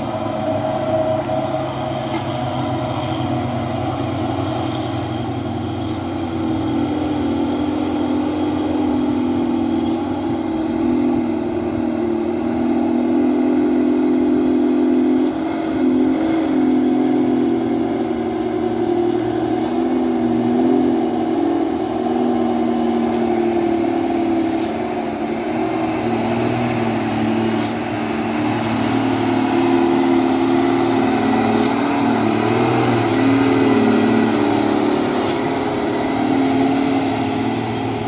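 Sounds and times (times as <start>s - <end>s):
diesel truck engine droning: 0.0s - 38.0s.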